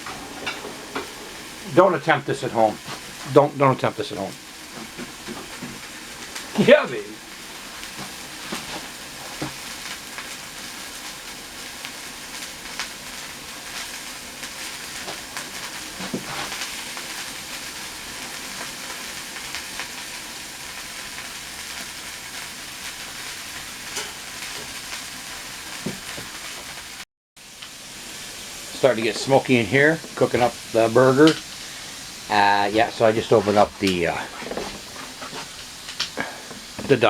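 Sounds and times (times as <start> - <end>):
patty sizzling: 0.0 - 37.0.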